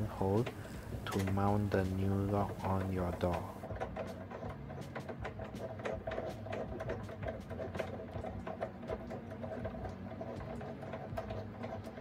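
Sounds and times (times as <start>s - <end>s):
screwdriver turning a screw: 0.0s - 12.0s.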